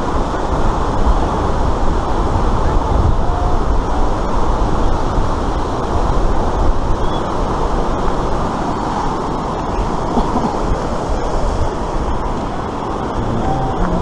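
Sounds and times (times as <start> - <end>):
white water roaring: 0.0 - 14.0.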